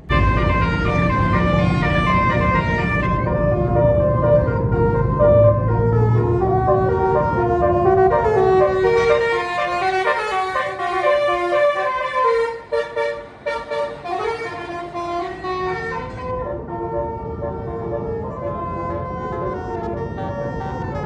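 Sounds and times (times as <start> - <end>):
bus engine rumble: 0.0 - 21.0
musical bus horn playing a tune: 0.0 - 21.0.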